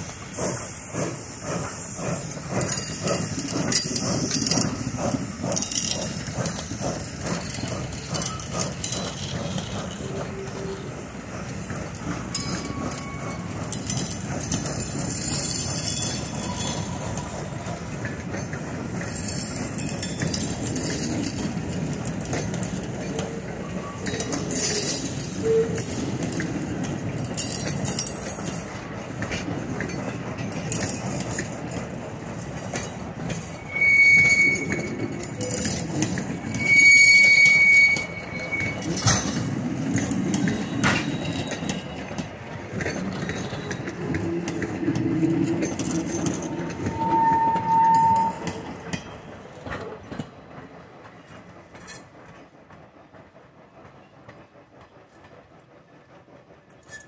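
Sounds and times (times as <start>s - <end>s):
train wheels clicking on rails: 0.0s - 57.0s.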